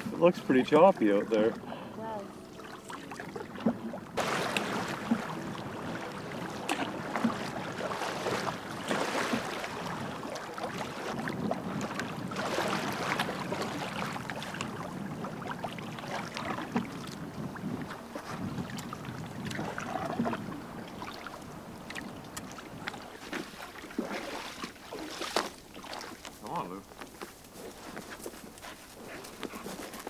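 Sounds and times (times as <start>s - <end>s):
water splashing against canoe: 2.5s - 30.0s.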